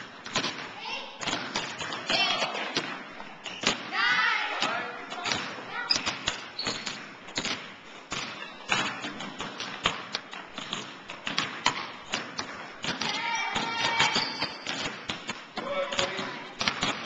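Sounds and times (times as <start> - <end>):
basketballs bouncing on hardwood: 0.0 - 17.0.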